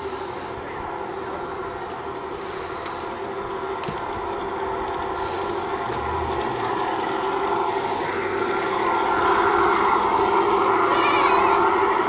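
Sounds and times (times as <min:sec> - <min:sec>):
model locomotive humming: 0:00.0 - 0:12.0.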